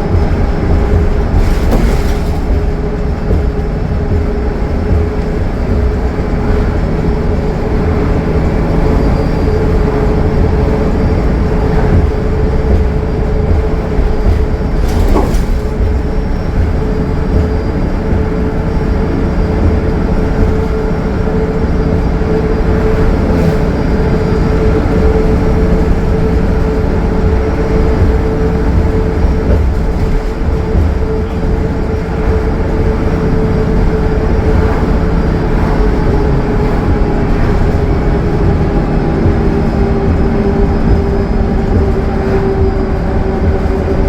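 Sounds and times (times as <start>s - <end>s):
bus engine drone: 0.0s - 44.0s
constant whine: 0.0s - 44.0s
road rumble: 0.0s - 44.0s.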